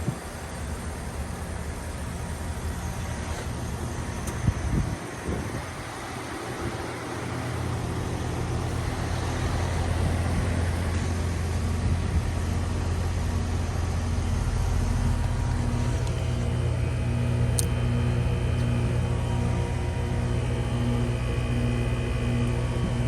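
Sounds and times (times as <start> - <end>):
heat pump low hum: 0.0 - 23.0.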